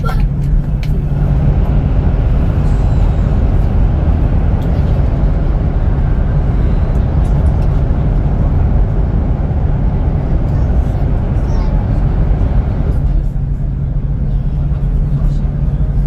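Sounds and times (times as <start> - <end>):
train rumble inside cabin: 0.0 - 16.0.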